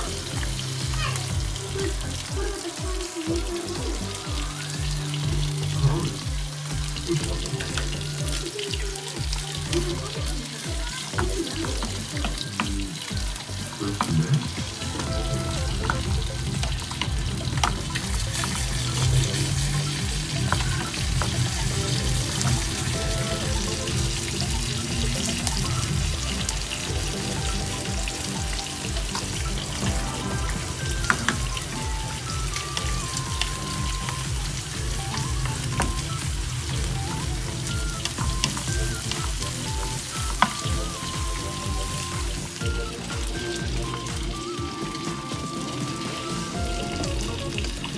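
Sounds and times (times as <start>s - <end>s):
food sizzling in a frying pan: 0.0s - 47.9s
soft background music: 0.0s - 47.9s.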